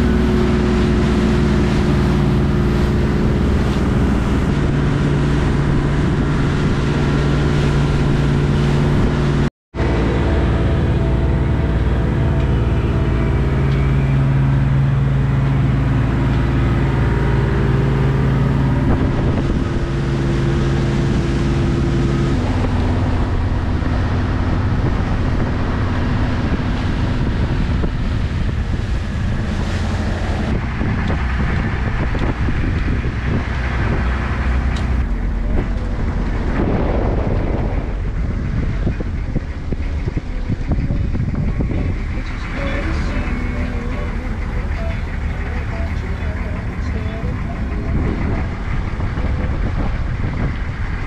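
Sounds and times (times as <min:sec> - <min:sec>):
boat engine running: 0:00.0 - 0:51.0
wind on microphone: 0:00.0 - 0:51.0.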